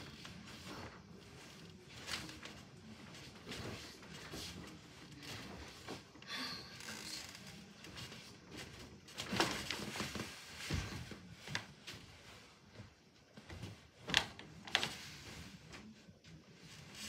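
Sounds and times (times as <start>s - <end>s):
person rustling and shuffling: 0.0s - 17.0s.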